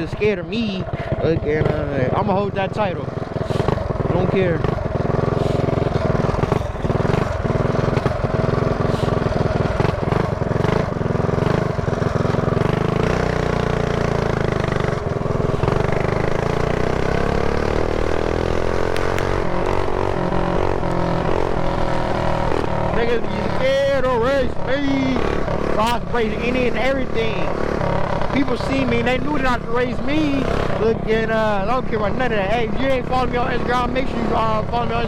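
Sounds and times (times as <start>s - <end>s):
small motorbike engine revving: 0.0s - 35.0s.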